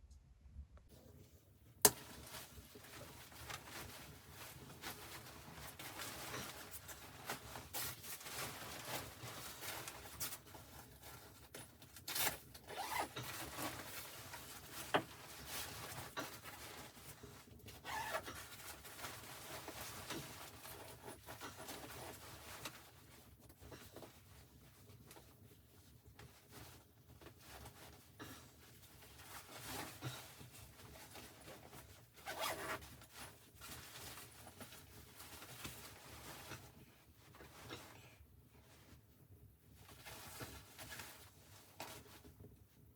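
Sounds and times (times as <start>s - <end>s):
rustling and handling noises: 0.9s - 42.9s.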